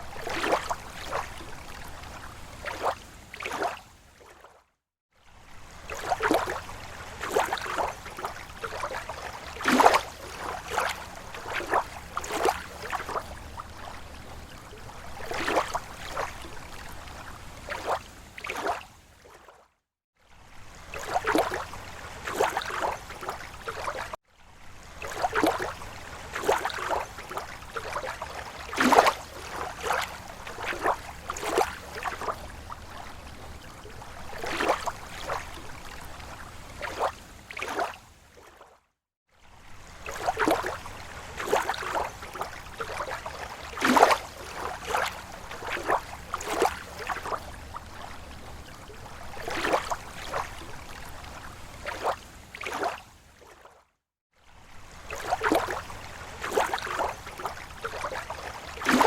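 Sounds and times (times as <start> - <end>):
small waves lapping on shore: 0.0 - 59.0.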